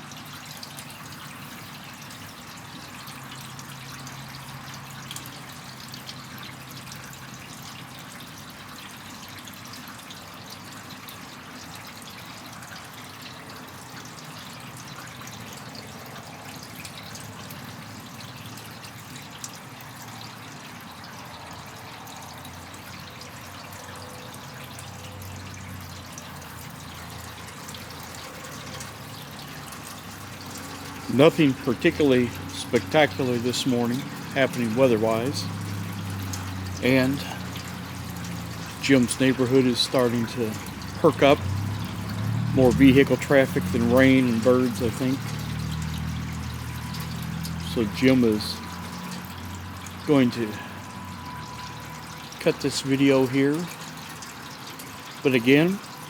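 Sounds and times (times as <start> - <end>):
rain dripping and pattering: 0.0 - 56.0.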